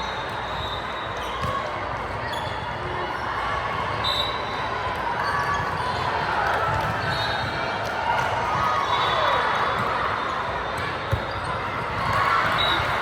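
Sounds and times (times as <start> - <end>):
echoing murmur of voices: 1.0 - 13.0.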